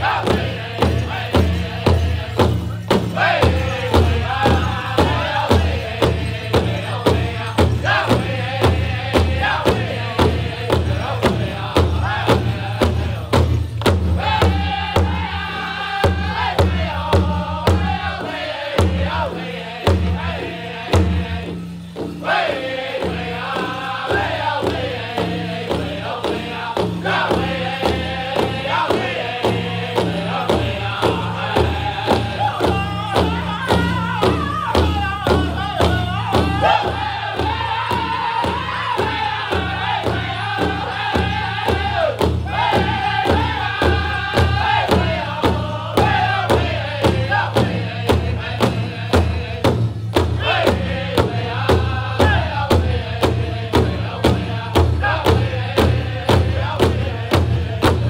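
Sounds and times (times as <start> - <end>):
large drum beating: 0.0 - 58.0
men chanting in high voices: 0.0 - 58.0.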